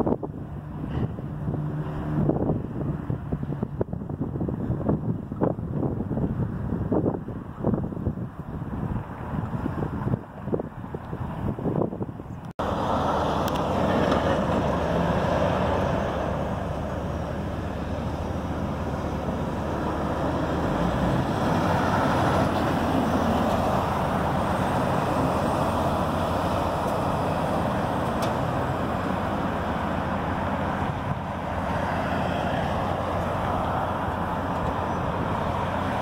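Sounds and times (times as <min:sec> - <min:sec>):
road traffic passing: 0:00.0 - 0:36.0.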